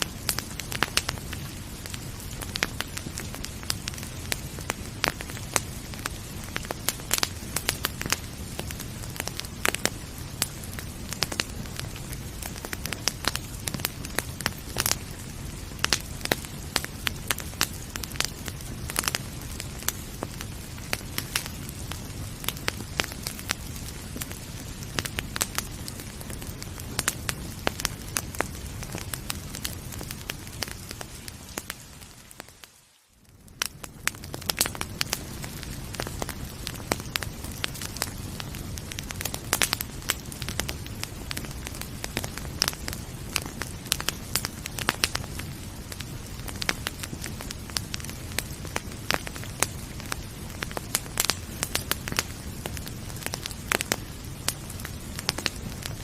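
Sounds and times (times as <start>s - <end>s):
wood fire crackling in a fireplace: 0.0s - 56.0s.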